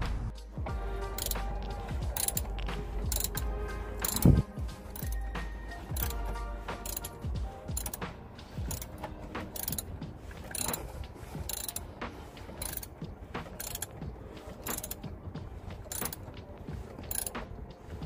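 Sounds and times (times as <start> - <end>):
ratchet wrench clicking: 1.2 - 15.1, 15.7 - 16.4, 17.0 - 17.7.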